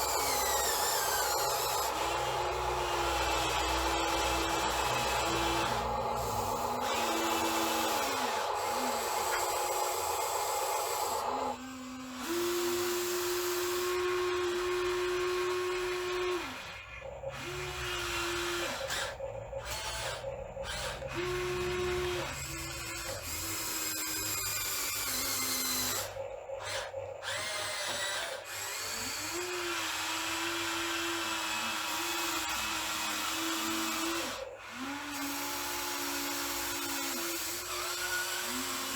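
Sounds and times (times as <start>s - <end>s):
electric motors and hydraulic pump whining: 0.0s - 38.9s.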